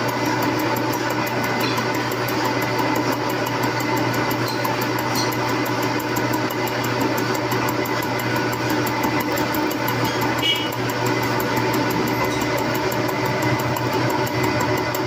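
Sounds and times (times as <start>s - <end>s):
milling machine cutting metal: 0.0s - 15.0s.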